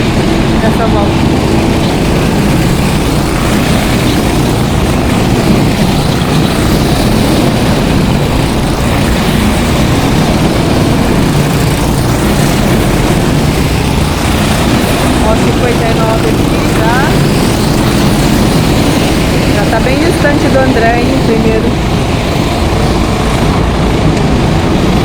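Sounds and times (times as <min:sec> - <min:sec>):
go-kart engines running: 0:00.0 - 0:25.0.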